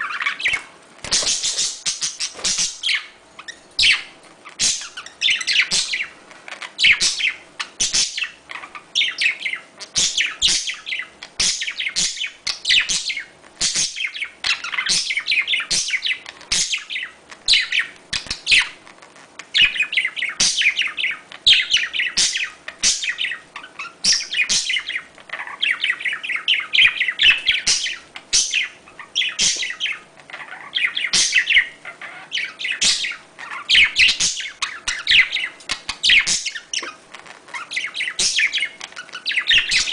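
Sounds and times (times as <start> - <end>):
budgerigars chattering: 0.0 - 18.8, 19.5 - 39.9.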